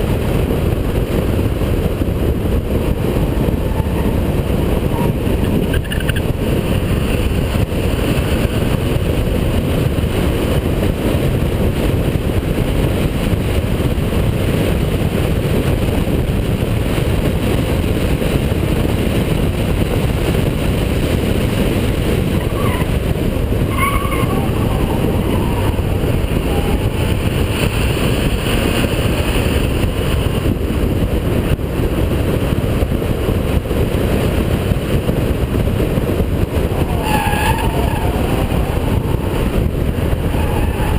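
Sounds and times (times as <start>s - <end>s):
car engine running hard: 0.0s - 40.9s
road noise: 0.0s - 40.9s.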